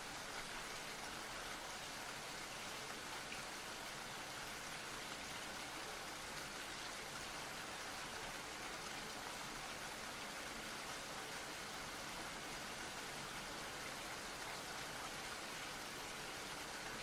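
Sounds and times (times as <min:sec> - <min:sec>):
steady white noise hiss: 0:00.0 - 0:17.0.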